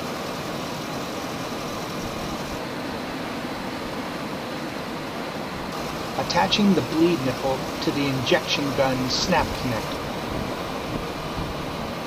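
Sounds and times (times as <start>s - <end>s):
air conditioning running: 0.2s - 12.0s.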